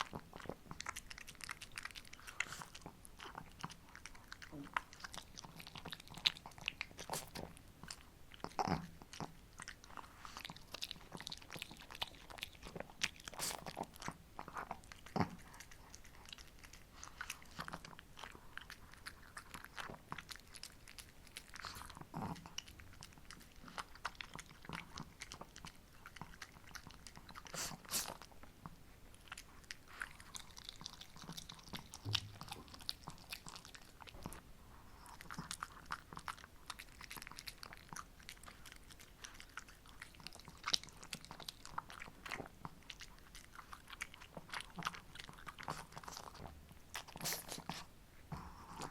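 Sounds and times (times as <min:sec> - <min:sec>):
dog chewing and crunching treat: 0:00.0 - 0:48.9.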